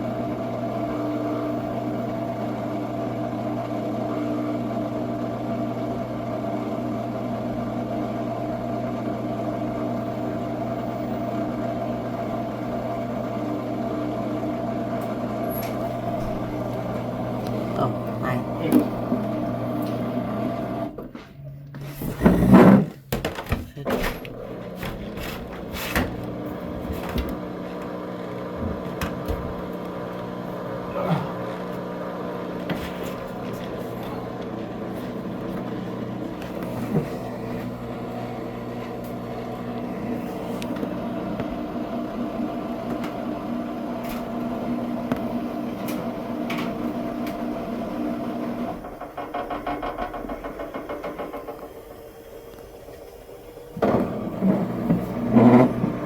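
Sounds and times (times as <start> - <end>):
washing machine motor whining: 0.0 - 56.0.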